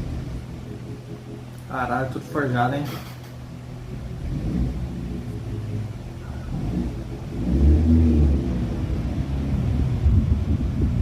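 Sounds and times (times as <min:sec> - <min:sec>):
low soundtrack rumbling: 0:00.0 - 0:11.0.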